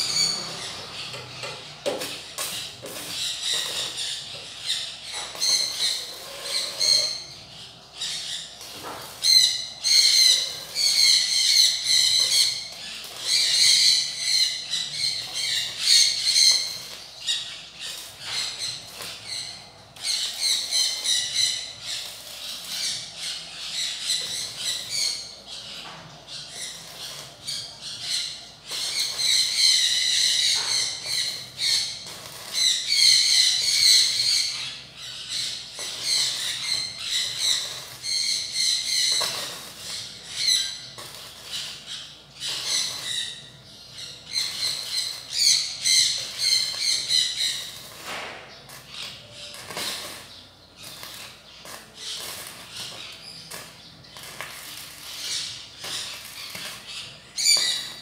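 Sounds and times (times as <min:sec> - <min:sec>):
welding arc crackling and squealing: 0:00.0 - 0:58.0.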